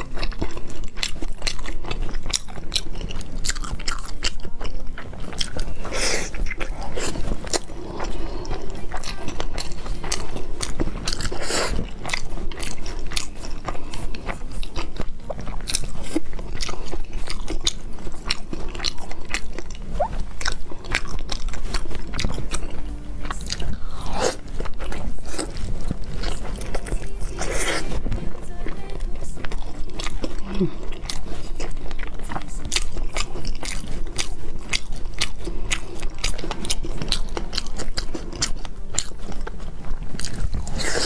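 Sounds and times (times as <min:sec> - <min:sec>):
person chewing sushi: 0:00.0 - 0:41.0.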